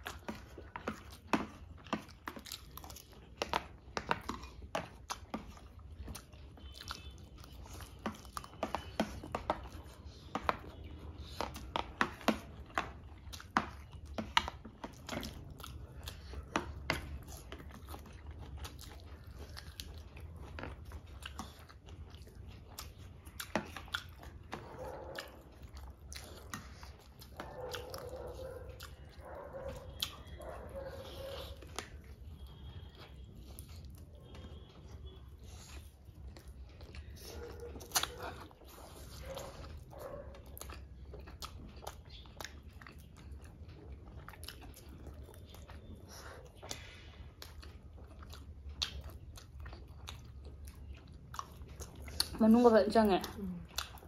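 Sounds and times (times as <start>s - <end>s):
chewing and mouth sounds: 0.0s - 54.0s.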